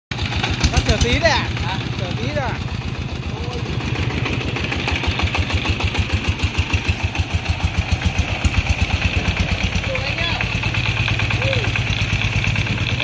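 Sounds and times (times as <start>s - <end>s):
diesel engine chugging: 0.1s - 13.0s.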